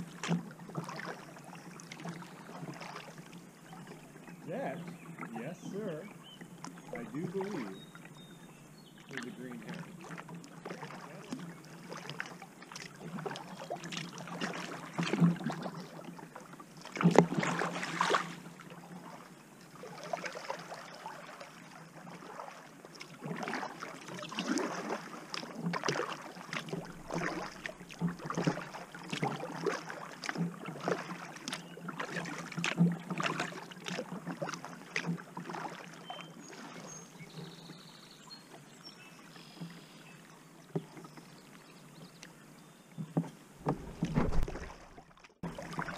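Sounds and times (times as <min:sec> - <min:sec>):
kayak paddle splashing water: 0:00.0 - 0:42.4, 0:43.0 - 0:45.9.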